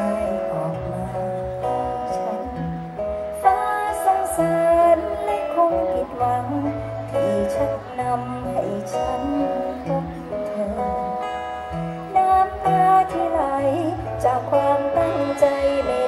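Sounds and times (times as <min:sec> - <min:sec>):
plucked guitar: 0:00.0 - 0:16.0
woman singing: 0:00.0 - 0:16.0.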